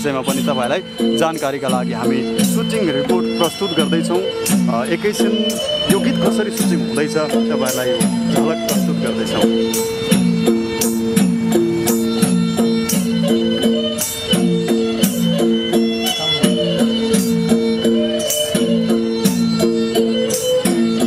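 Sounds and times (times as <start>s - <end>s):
folk melody of held notes: 0.0s - 21.0s
hand drum strokes: 1.2s - 21.0s.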